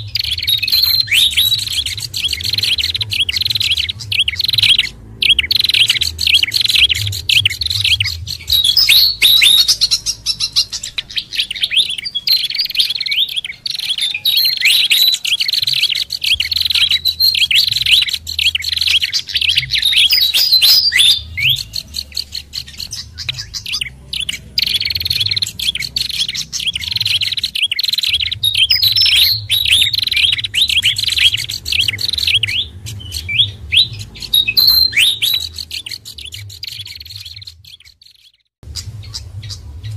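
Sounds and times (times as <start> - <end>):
small songbirds chirping and twittering: 0.0 - 39.9.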